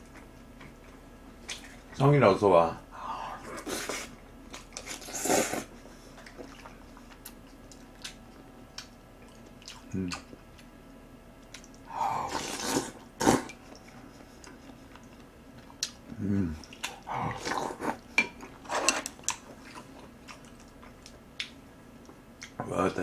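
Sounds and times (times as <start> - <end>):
chewing and wet mouth sounds: 3.6 - 22.6.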